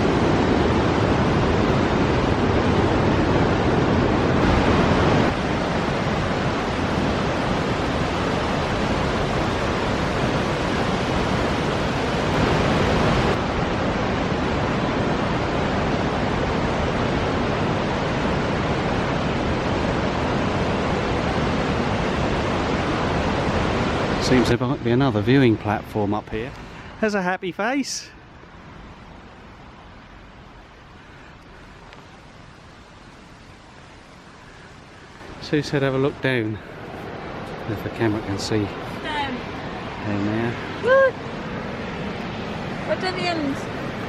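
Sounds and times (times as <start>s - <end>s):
waterfall roaring: 0.0s - 44.0s.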